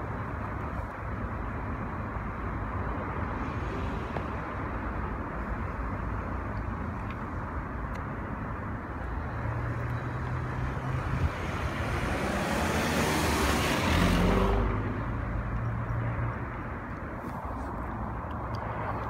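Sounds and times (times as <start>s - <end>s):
tyre and road noise: 0.0s - 19.0s.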